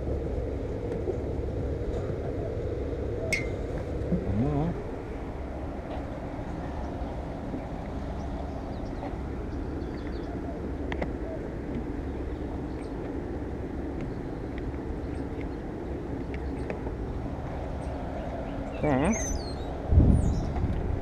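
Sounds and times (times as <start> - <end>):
outdoor background hum: 0.0 - 21.0.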